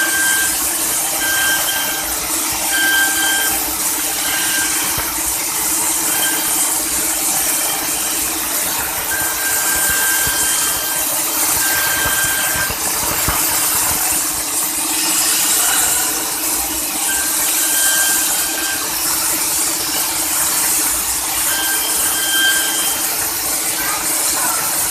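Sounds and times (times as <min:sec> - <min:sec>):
high squeal of cutting: 0:00.0 - 0:14.4, 0:15.0 - 0:24.9
cnc machine hum with hiss: 0:00.0 - 0:24.9.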